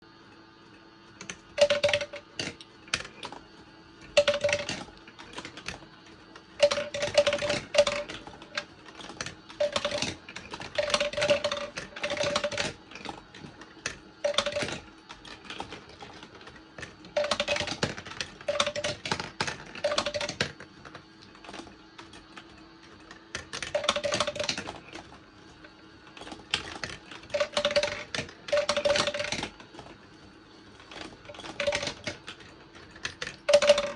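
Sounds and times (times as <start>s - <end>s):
ringing hum from rolling: 0.1s - 33.9s.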